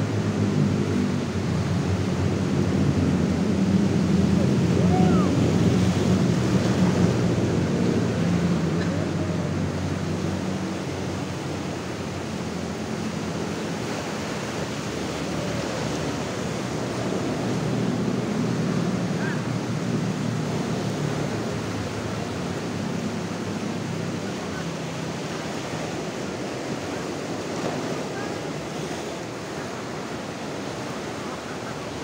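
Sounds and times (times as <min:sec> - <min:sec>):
ocean surf breaking on shore: 0:00.0 - 0:32.0.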